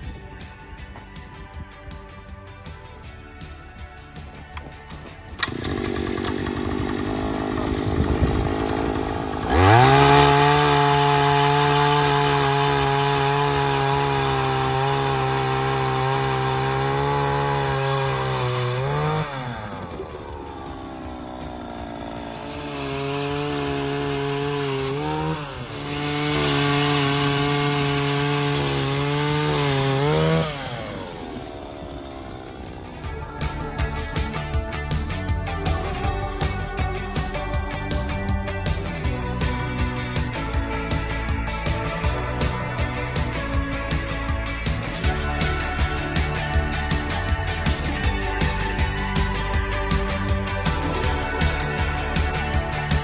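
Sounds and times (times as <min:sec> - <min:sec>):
ice auger engine revving: 0:05.3 - 0:36.6, 0:37.9 - 0:53.0.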